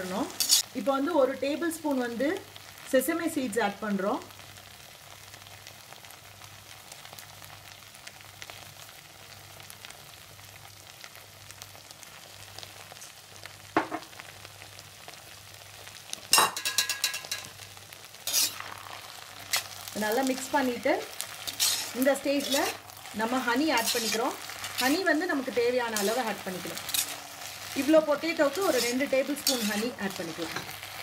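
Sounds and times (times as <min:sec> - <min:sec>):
potatoes sizzling in a wok: 0:00.0 - 0:31.0.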